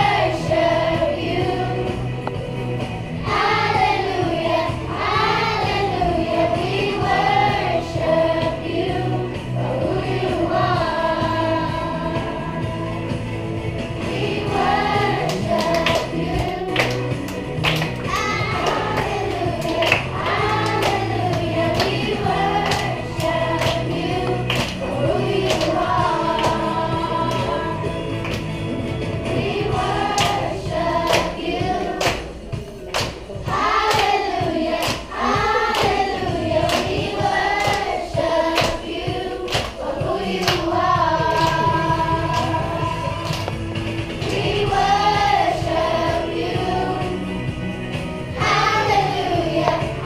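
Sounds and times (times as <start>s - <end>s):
bass accompaniment with beat: 0.0s - 50.0s
children's choir singing gospel: 0.0s - 50.0s.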